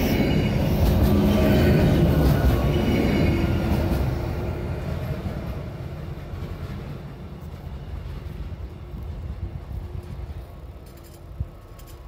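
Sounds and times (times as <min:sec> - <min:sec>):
diesel train rumbling on rails: 0:00.0 - 0:12.0.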